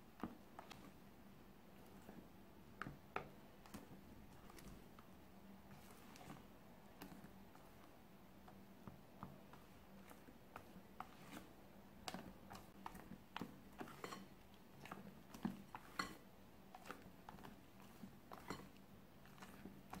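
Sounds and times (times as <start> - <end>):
wet batter squelching: 0.0 - 20.0.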